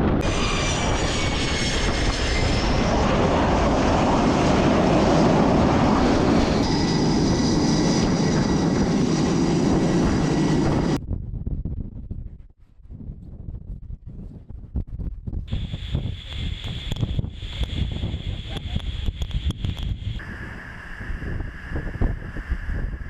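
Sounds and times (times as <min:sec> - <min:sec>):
jet engine roaring with whine: 0:00.0 - 0:11.0, 0:15.5 - 0:23.0.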